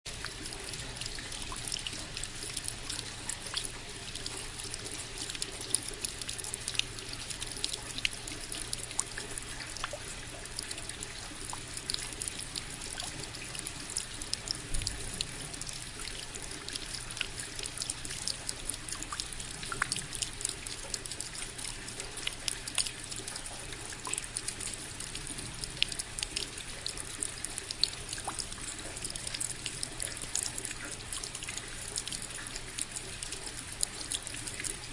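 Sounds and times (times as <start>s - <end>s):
raindrops striking close by: 0.0s - 34.9s
steady rain: 0.1s - 34.9s.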